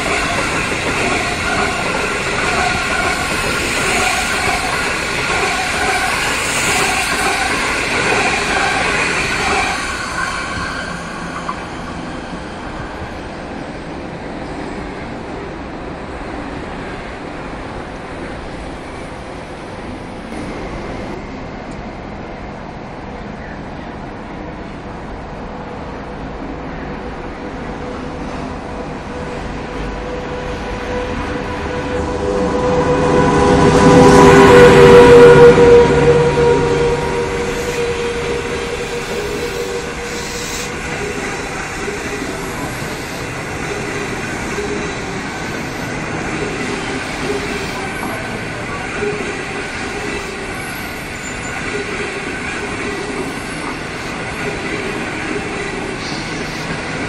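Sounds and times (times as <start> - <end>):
electric train rumble: 0.0 - 57.0.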